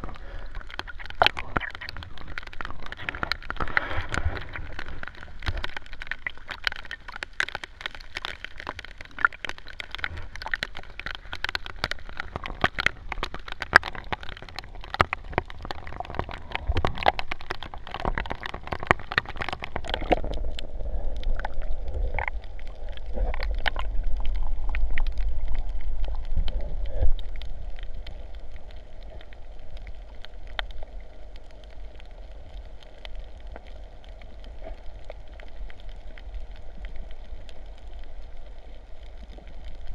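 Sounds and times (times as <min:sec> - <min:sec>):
rain pattering on water: 0:00.0 - 0:39.9.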